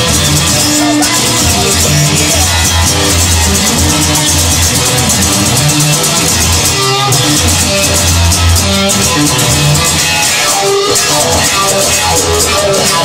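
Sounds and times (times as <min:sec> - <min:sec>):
instrumental rock music: 0:00.0 - 0:13.0.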